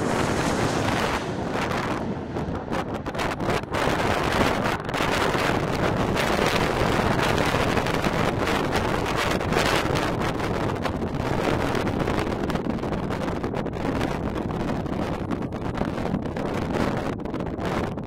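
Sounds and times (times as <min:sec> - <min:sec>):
airliner jet engine noise: 0:00.0 - 0:18.0
wind buffeting microphone: 0:00.0 - 0:18.0.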